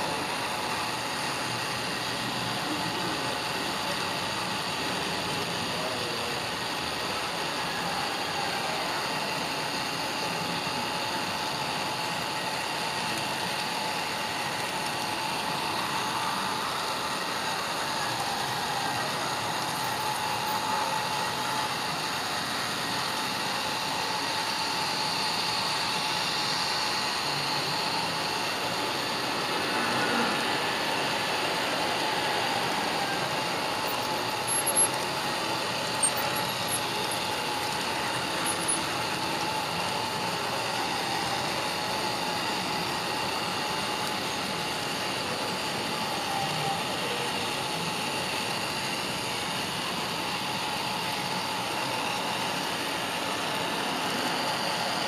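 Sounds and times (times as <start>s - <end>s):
model train motor and wheels: 0.0s - 55.0s.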